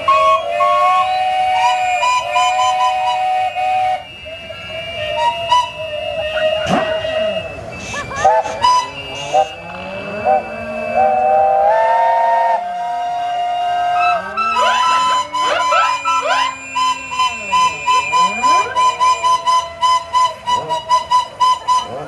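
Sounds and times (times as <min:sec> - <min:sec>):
steam whistles blowing: 0:00.0 - 0:22.0.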